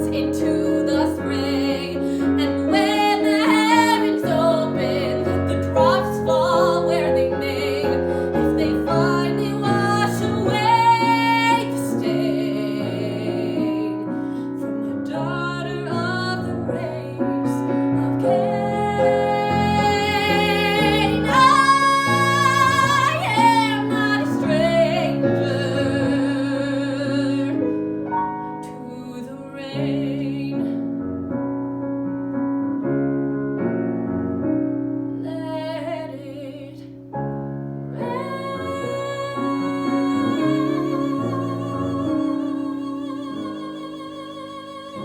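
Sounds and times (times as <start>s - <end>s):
woman singing a ballad: 0.0s - 31.0s, 35.2s - 37.0s, 37.9s - 45.0s
piano accompaniment: 0.0s - 45.0s.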